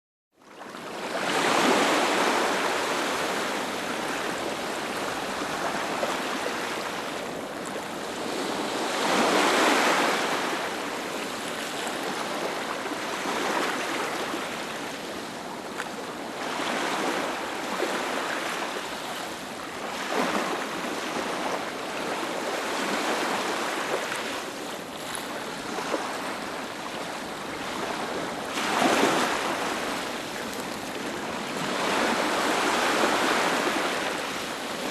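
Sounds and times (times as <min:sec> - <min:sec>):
ocean waves breaking on beach: 0:00.5 - 0:34.9.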